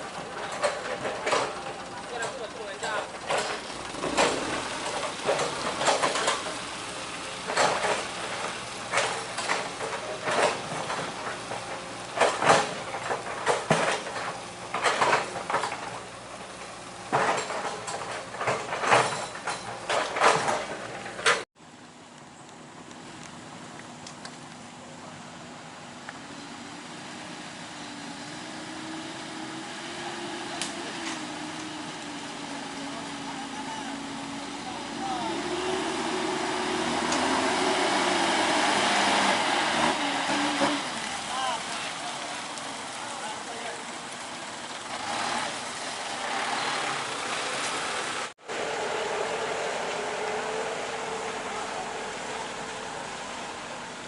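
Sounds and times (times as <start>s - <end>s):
heavy vehicle engine running: 0.0s - 54.0s.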